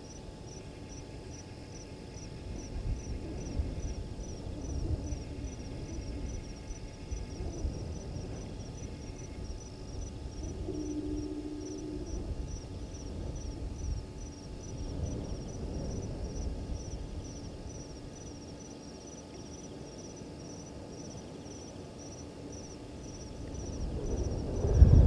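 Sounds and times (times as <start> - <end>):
insect chirping: 0.0 - 25.0
low outdoor rumble: 0.0 - 25.0.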